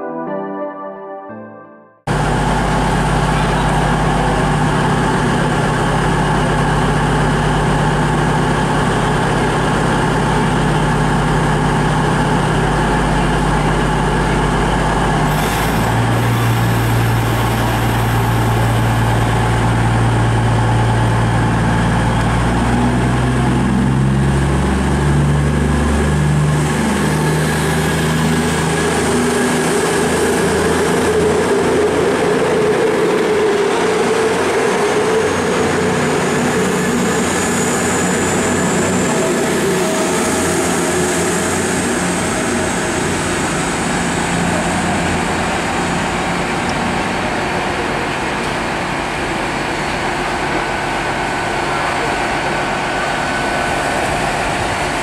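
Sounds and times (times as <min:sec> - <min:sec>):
train low hum: 0:02.1 - 0:55.0.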